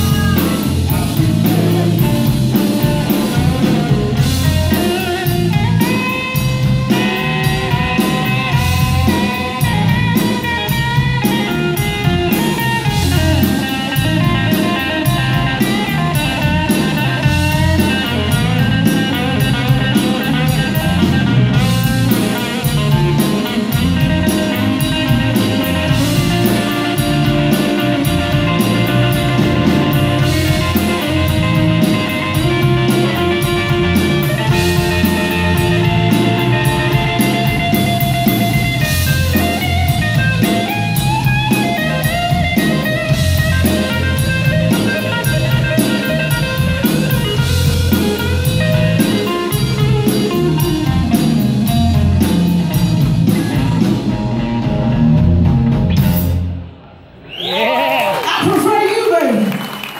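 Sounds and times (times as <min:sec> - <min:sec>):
drum kit with cymbals: 0:00.0 - 0:56.7
electric guitar: 0:00.0 - 0:58.6
bass guitar: 0:00.0 - 0:58.7.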